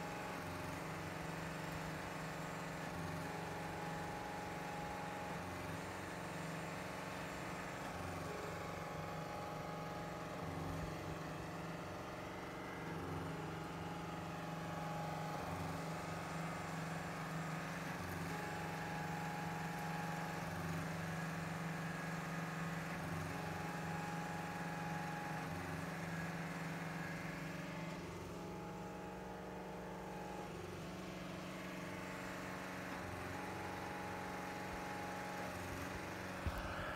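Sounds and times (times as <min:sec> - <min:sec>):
pump engine running: 0:00.0 - 0:36.9.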